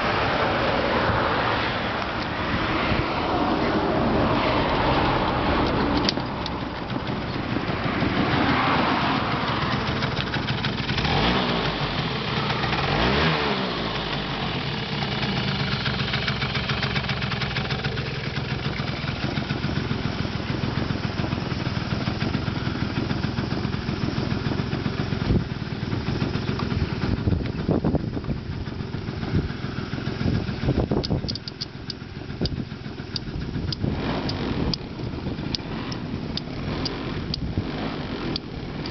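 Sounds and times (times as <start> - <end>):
scooter engine revving and idling: 0.0 - 38.9.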